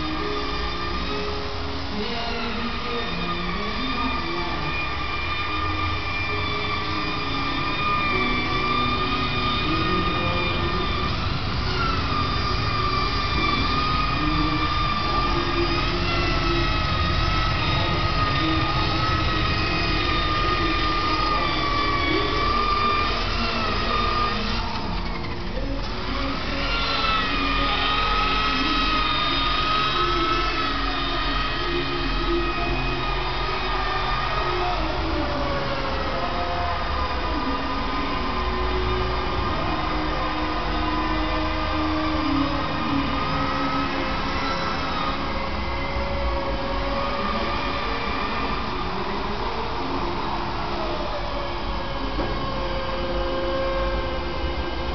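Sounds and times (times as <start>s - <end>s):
electric polisher motor whine: 0.0s - 54.9s.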